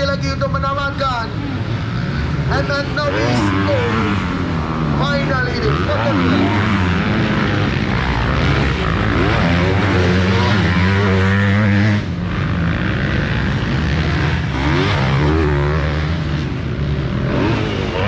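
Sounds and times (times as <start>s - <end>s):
motocross motorcycles revving: 0.0s - 18.0s.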